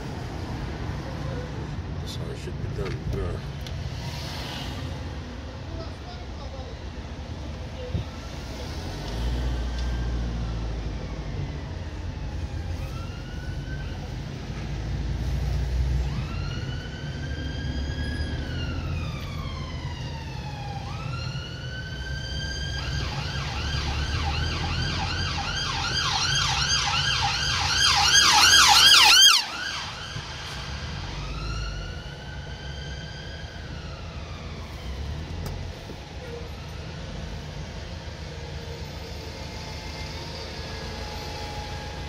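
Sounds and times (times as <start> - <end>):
low rumble of traffic: 0.0 - 42.0
emergency siren: 8.2 - 42.0.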